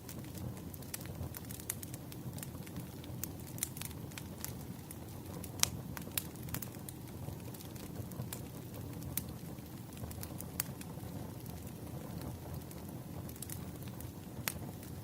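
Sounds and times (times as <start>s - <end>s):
logs burning rumble: 0.0s - 15.0s
wood fire crackling: 0.0s - 15.0s.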